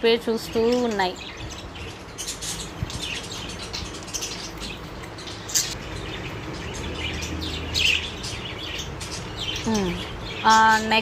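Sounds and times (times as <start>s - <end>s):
budgies chirping: 0.2s - 11.0s.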